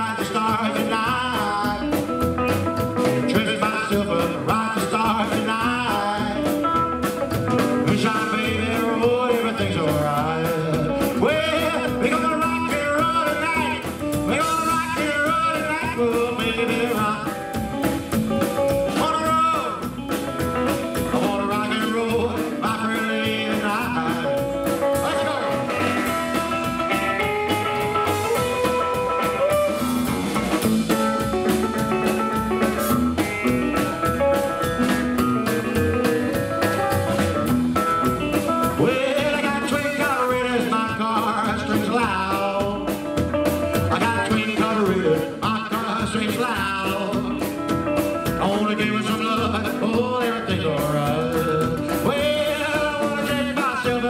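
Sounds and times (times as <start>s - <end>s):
rockabilly band playing: 0.0s - 54.0s.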